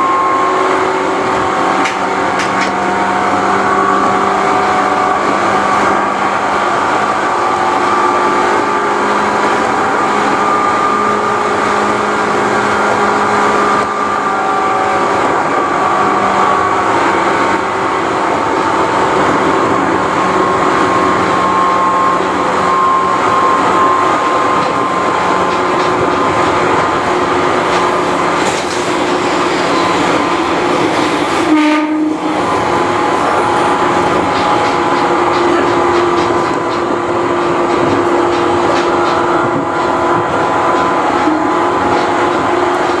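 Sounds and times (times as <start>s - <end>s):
electric train motors whining: 0.0s - 43.0s
rail running noise: 0.0s - 43.0s.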